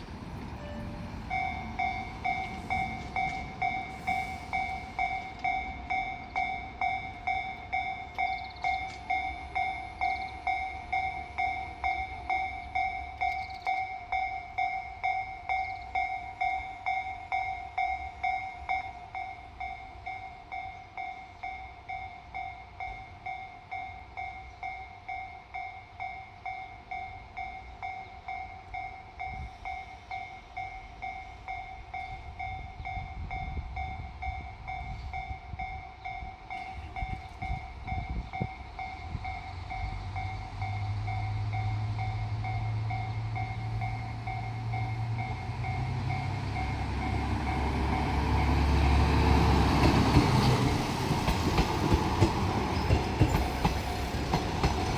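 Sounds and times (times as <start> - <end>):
approaching train rumble: 0.0 - 54.9
diesel railcar engine drone: 0.0 - 54.9
level-crossing alarm ringing: 0.0 - 54.9.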